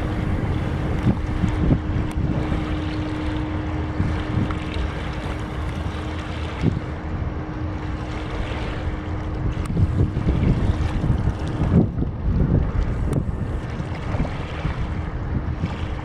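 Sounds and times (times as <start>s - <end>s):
ship engine humming: 0.0s - 16.0s
wind buffeting microphone: 0.0s - 16.0s.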